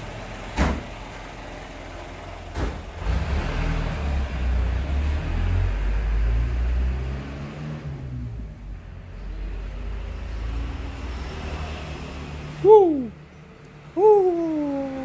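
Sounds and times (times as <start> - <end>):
low vehicle engine rumble: 0.0 - 15.0.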